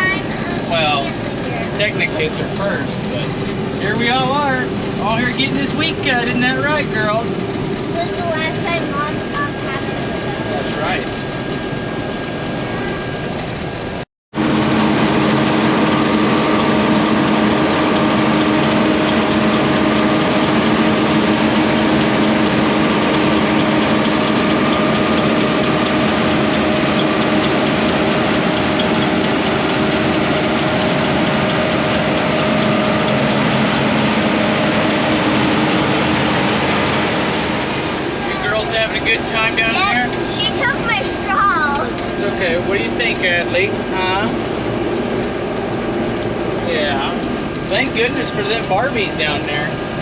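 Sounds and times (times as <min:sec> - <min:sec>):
combine harvester engine drone: 0:00.0 - 0:50.0.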